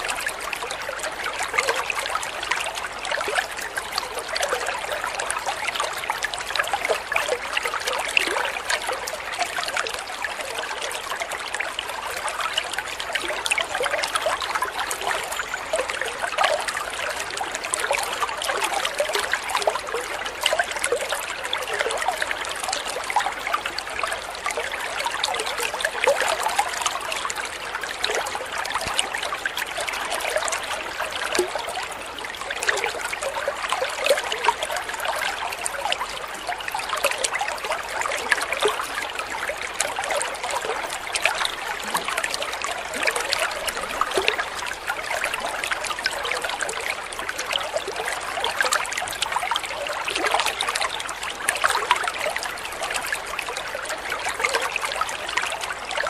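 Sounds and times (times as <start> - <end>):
water trickling into pond: 0.0 - 56.0.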